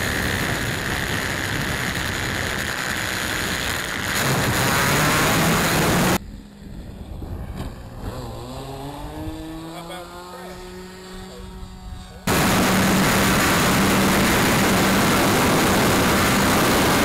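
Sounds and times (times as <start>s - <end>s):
distant model plane engine: 0.0s - 17.0s
model airplane engine: 0.0s - 17.0s.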